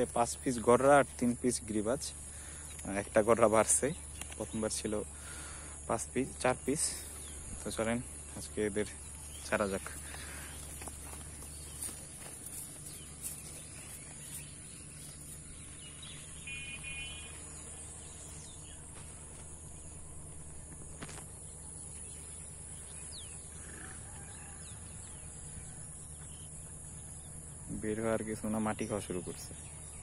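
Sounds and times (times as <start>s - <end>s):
bird chirp: 0.0s - 30.0s.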